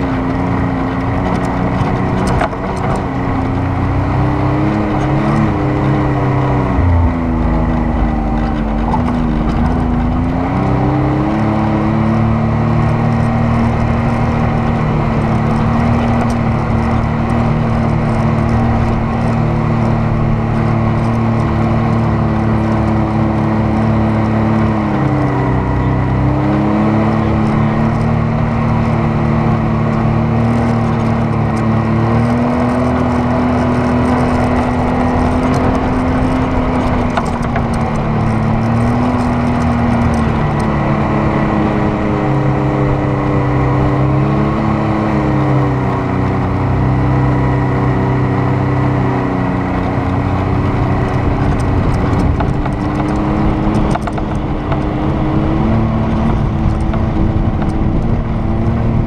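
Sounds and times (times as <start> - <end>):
driving noise: 0.0 - 59.0
vehicle engine revving: 0.0 - 59.0
wind: 0.0 - 59.0.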